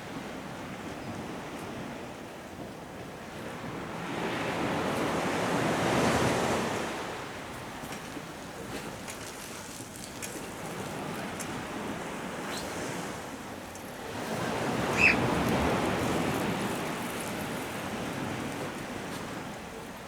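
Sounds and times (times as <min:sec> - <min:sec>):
surf washing on beach: 0:03.4 - 0:19.8.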